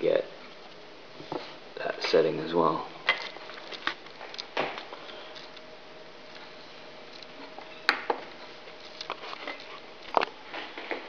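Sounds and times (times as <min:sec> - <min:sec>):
faint hum and room hiss: 0:00.0 - 0:11.0.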